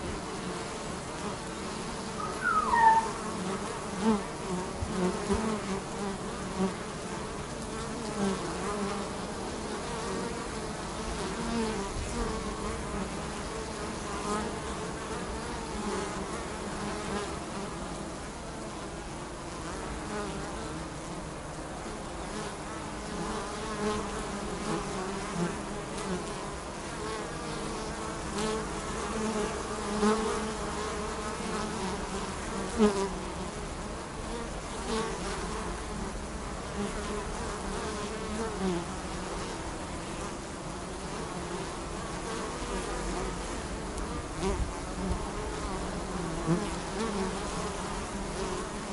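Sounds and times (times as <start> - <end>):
honey bees buzzing: 0.0 - 48.9.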